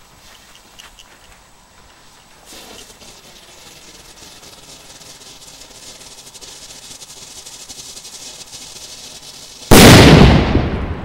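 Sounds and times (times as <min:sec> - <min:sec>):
firecracker hissing crackle: 0:00.0 - 0:11.0.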